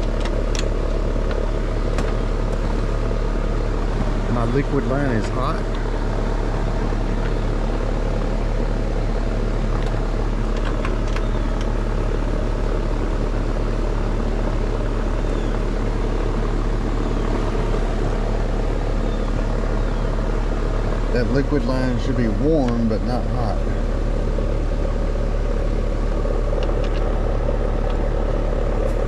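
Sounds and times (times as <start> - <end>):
heat pump humming: 0.0 - 29.0.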